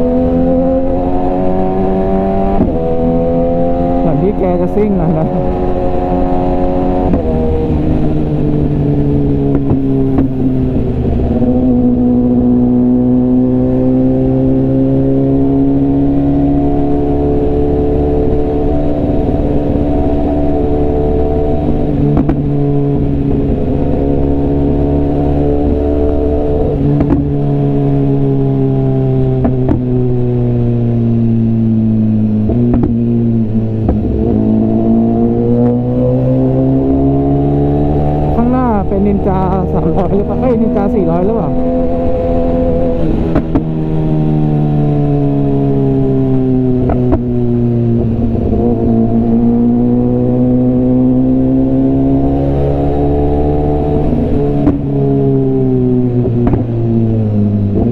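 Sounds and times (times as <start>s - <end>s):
motorcycle engine running: 0.0s - 51.8s.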